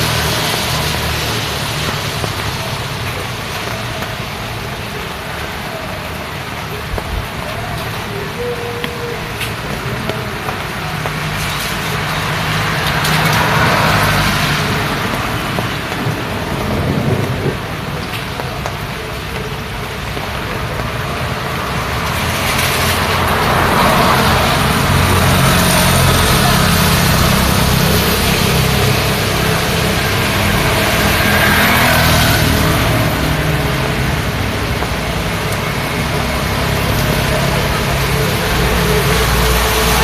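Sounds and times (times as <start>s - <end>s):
tyres hissing on wet road: 0.0s - 40.0s.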